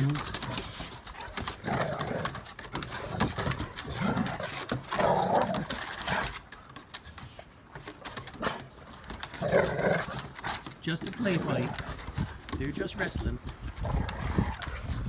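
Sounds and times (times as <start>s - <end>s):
dogs growling: 0.0s - 6.8s, 8.0s - 15.0s
dogs scuffling: 0.0s - 15.0s.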